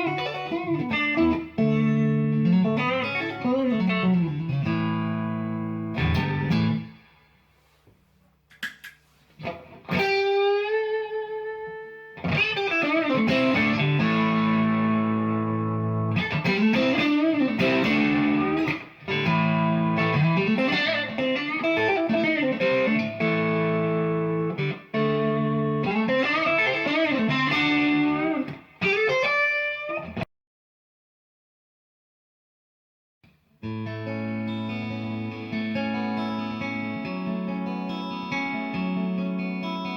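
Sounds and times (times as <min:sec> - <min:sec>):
electric guitar chords and phrases: 0:00.0 - 0:07.4, 0:09.4 - 0:30.2, 0:33.2 - 0:39.9.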